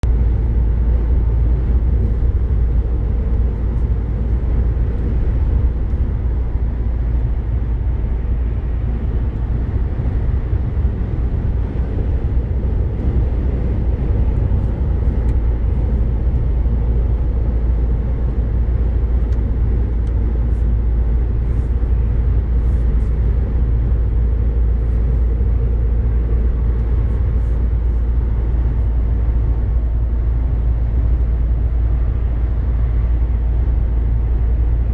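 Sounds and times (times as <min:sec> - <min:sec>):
truck engine and road rumble: 0:00.0 - 0:34.9.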